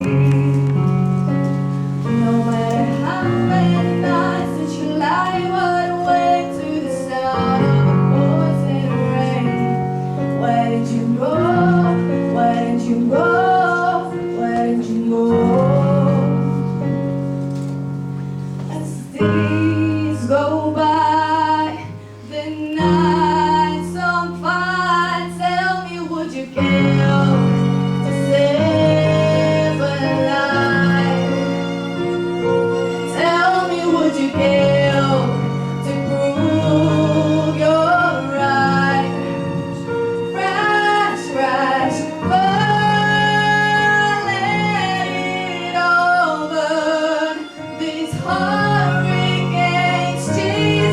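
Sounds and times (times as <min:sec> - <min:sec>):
piano chords: 0:00.0 - 0:50.9
violins: 0:00.0 - 0:50.9
woman singing a slow ballad: 0:02.1 - 0:16.7, 0:18.7 - 0:31.7, 0:33.1 - 0:39.6, 0:40.3 - 0:50.9.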